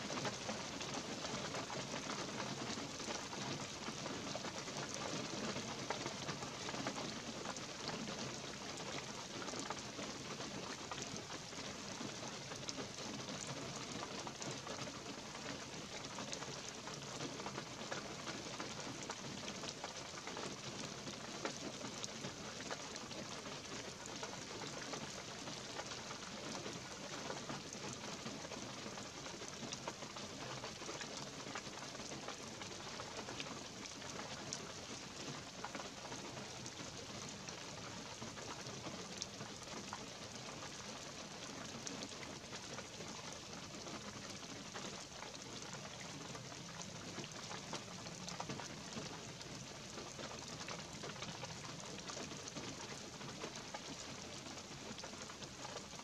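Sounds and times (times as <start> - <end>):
light rain on pine needles: 0.0 - 56.0.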